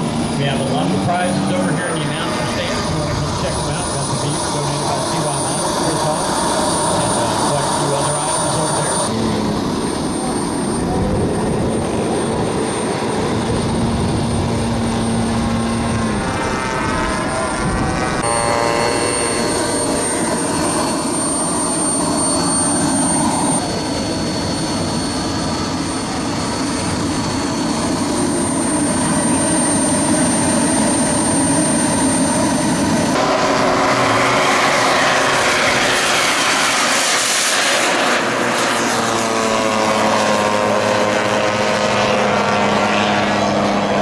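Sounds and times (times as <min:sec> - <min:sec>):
model aircraft engines droning: 0:00.0 - 0:44.0
model aircraft passing by: 0:00.0 - 0:44.0.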